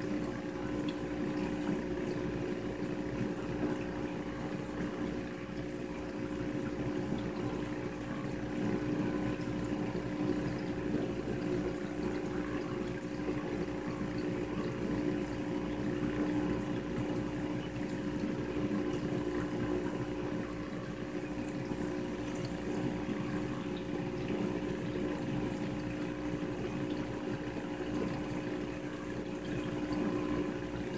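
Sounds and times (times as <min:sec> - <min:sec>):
aquarium pumps humming: 0:00.0 - 0:30.9
water bubbling: 0:00.0 - 0:30.9.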